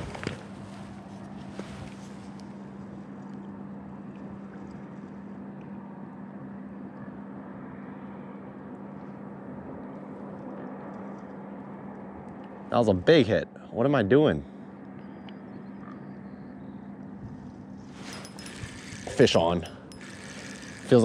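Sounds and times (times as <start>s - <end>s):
outdoor noise: 0.0s - 21.0s
steady low mechanical hum: 0.0s - 21.0s.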